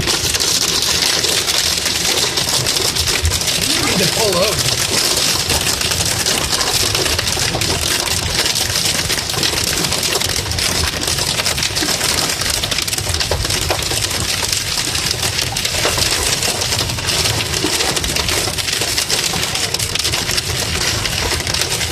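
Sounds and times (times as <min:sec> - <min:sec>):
hail hitting a car roof: 0:00.0 - 0:21.9.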